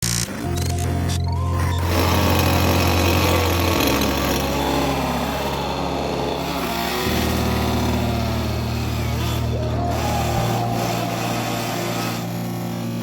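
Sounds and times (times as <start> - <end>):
chainsaw running: 0.0 - 13.0
background music with bass line: 0.4 - 13.0.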